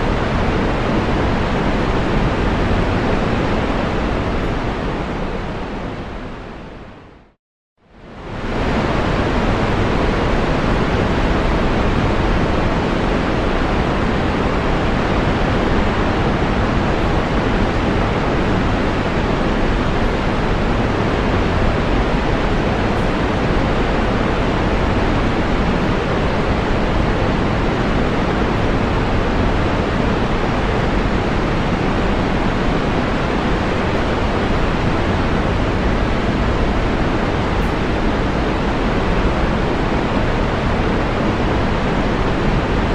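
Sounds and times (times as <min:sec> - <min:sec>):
waterfall roaring: 0:08.2 - 0:42.9.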